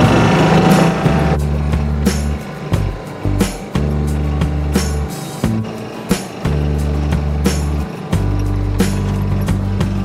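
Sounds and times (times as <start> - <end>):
bass line: 0.0 - 10.0
drum and cymbal hits: 0.0 - 10.0.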